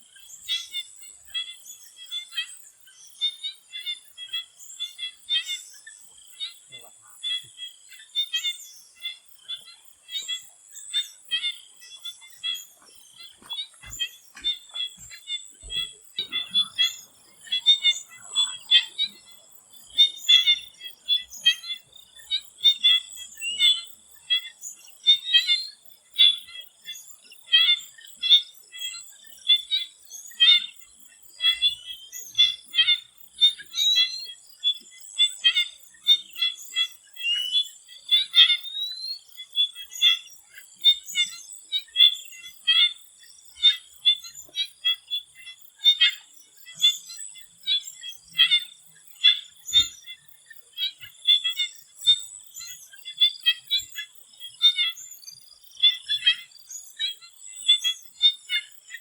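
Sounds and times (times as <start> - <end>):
frogs calling in chorus: 0.0 - 59.0.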